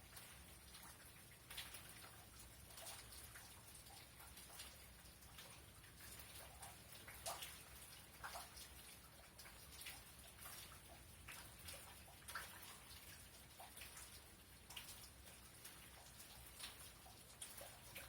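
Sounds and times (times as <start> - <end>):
raindrops tapping: 0.0 - 18.0
soft steady rain hiss: 0.0 - 18.0.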